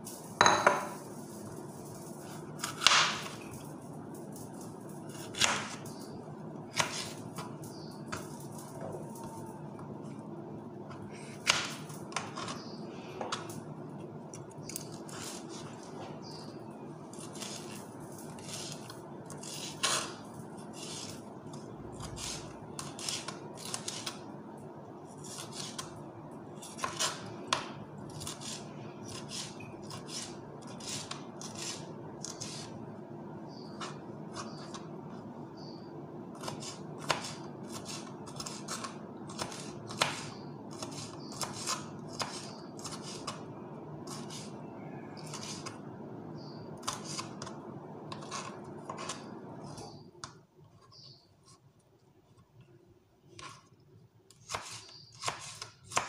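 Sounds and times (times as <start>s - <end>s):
steady low hum: 0.0s - 54.3s.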